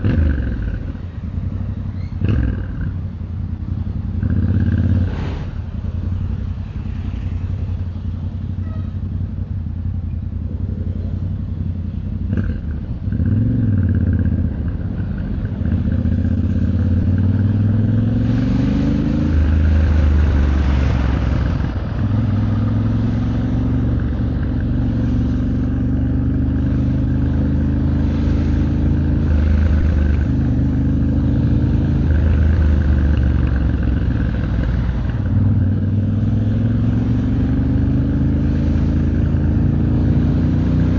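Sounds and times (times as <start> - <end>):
motorcycle engine accelerating: 0.0 - 40.9
road and wind noise: 0.0 - 40.9.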